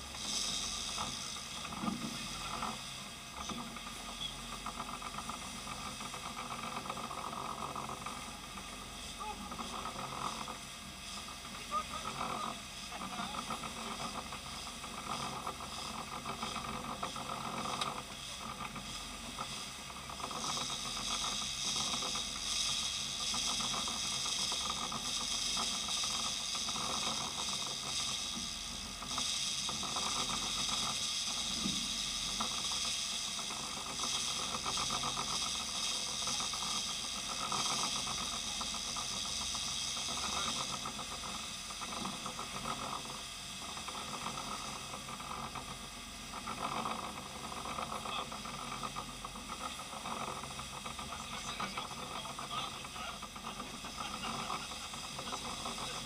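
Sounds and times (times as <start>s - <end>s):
boat engines running: 0.0s - 56.0s
hiss: 0.0s - 56.0s
rush of boat wake: 0.0s - 56.0s.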